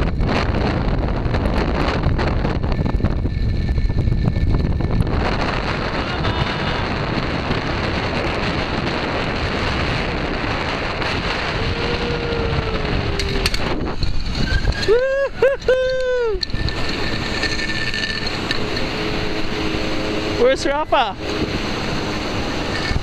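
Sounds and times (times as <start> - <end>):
churning river: 0.0 - 23.0
wind buffeting microphone: 0.0 - 23.0.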